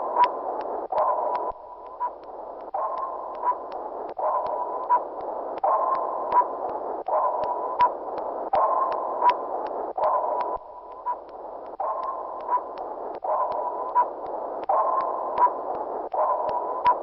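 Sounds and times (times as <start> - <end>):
sonar tone: 0.0 - 2.2, 2.8 - 17.0.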